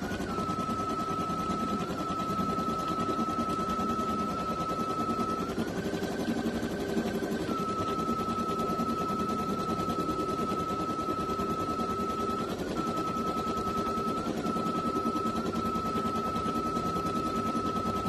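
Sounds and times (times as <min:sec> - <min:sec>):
high machine whine: 0:00.0 - 0:18.0.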